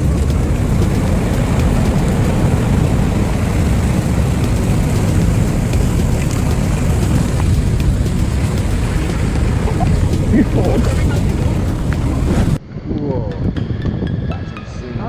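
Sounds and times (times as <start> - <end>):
river ice and water rushing: 0.0 - 12.6.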